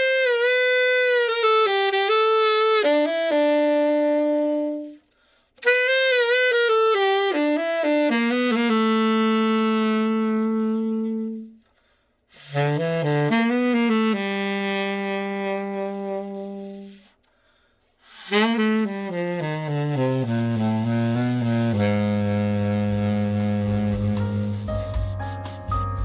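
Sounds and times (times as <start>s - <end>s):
tenor saxophone solo: 0.0s - 17.3s, 18.0s - 26.0s.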